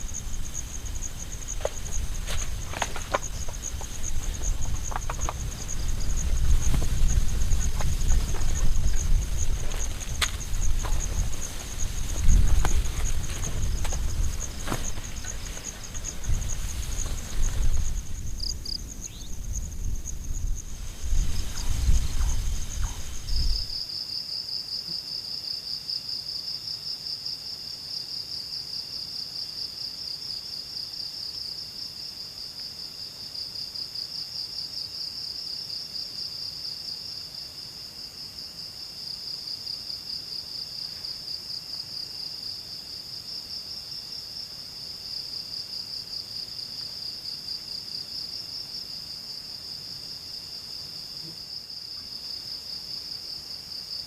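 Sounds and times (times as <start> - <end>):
fainter lower insect trill: 0.0 - 54.0
insects trilling: 0.0 - 54.0.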